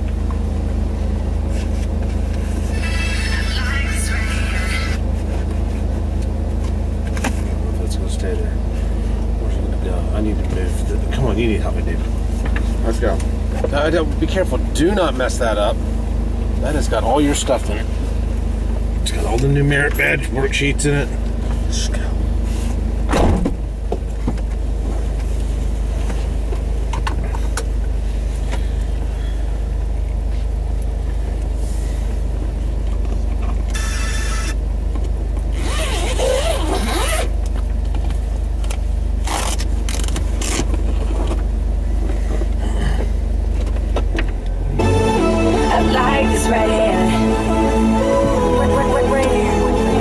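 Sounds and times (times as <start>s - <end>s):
car engine humming: 0.0s - 50.0s.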